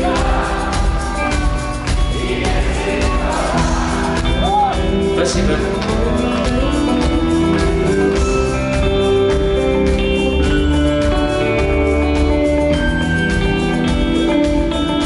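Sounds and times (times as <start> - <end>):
bass and drum beat: 0.0 - 15.0
live rock band playing: 0.0 - 15.0.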